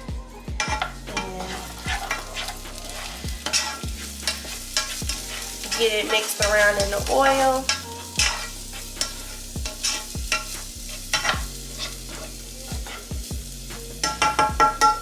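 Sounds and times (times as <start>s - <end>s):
onion sizzling in oil: 0.6s - 15.0s
utensil scraping a pan: 0.6s - 15.0s.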